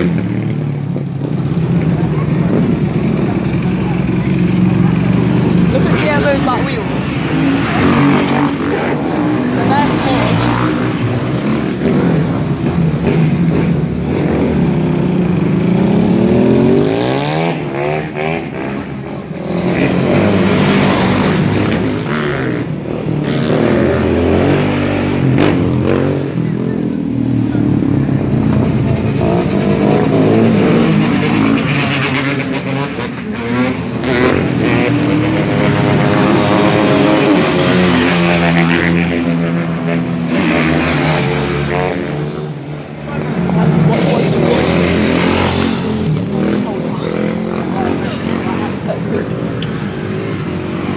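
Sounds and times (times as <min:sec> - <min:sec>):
motorbike engines revving: 0:00.0 - 0:50.9.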